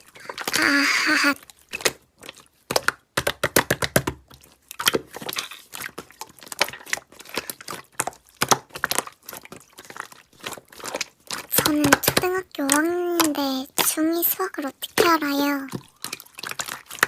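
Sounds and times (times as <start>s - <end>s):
slime clicking and popping: 1.4s - 17.0s.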